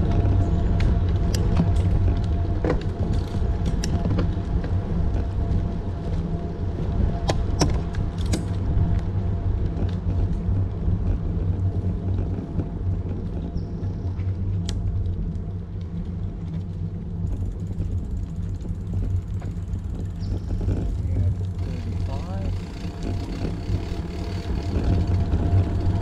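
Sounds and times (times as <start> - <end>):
bicycle clicks and rattles: 0.0 - 26.0
bicycle tyres rolling on pavement: 0.0 - 26.0
wind rumble on microphone: 0.0 - 26.0.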